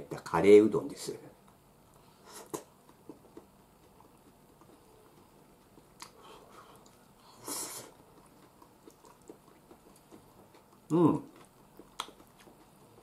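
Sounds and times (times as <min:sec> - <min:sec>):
quiet chewing: 0:01.4 - 0:13.0.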